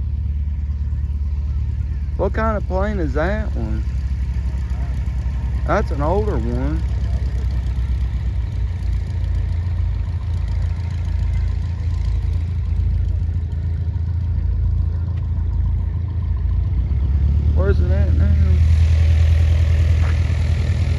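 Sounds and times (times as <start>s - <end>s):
low engine rumble: 0.0s - 20.9s.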